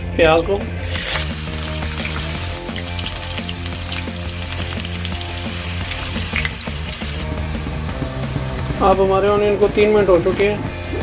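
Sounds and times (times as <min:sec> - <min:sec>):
onion sizzling in hot oil: 0:00.8 - 0:11.0.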